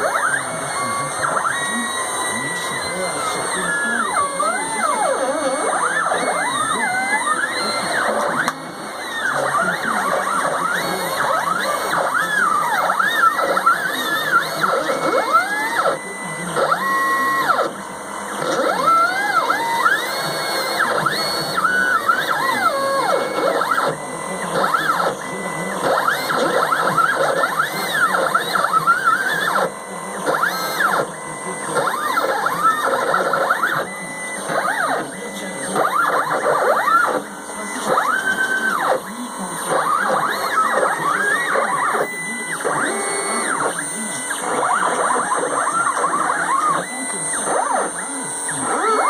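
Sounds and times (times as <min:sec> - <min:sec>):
stepper motors whining: 0:00.0 - 0:49.0.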